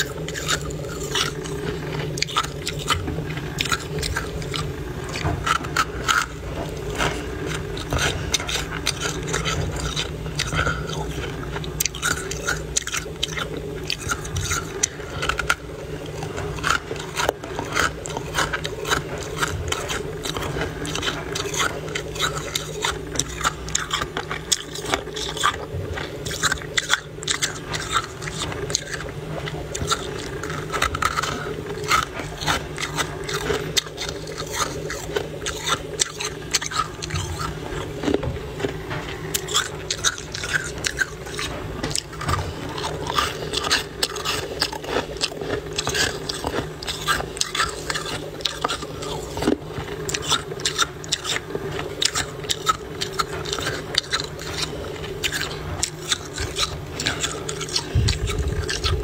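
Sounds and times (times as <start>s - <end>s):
frost crunching and scraping: 0.0s - 59.0s
steady low hum: 0.0s - 59.0s.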